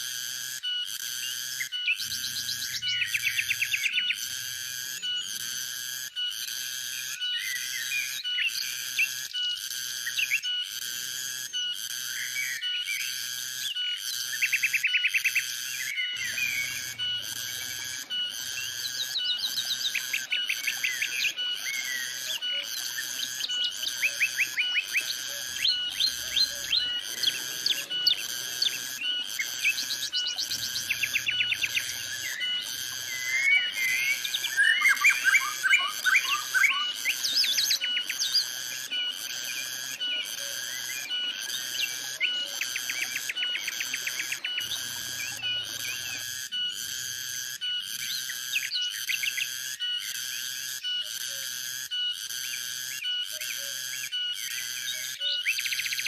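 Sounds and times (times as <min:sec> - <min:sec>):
cicadas buzzing: 0:00.0 - 0:56.0
birds chirping and trilling: 0:00.6 - 0:05.6, 0:06.2 - 0:10.7, 0:11.6 - 0:46.9, 0:47.6 - 0:51.4, 0:52.1 - 0:56.0.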